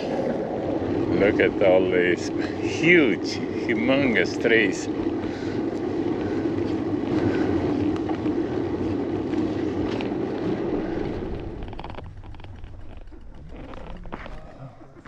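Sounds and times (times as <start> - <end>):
bicycle tyre noise: 0.0 - 15.0
wind on microphone: 0.0 - 15.0.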